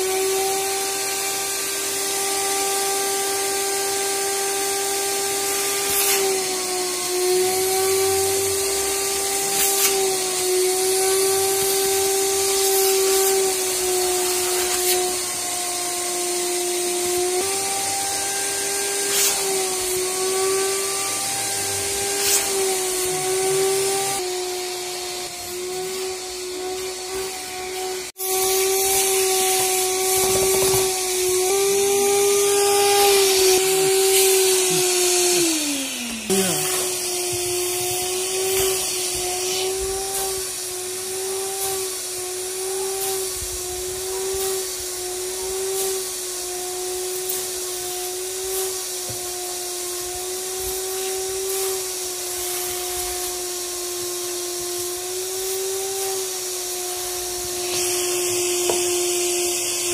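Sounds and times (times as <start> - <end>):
wet vacuum whining: 0.0 - 59.9.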